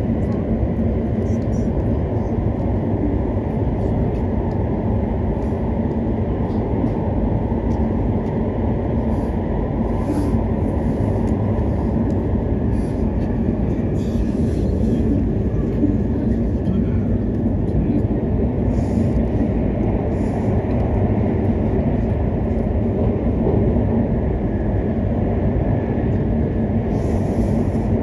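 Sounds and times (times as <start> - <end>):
train running rumble: 0.0 - 28.0.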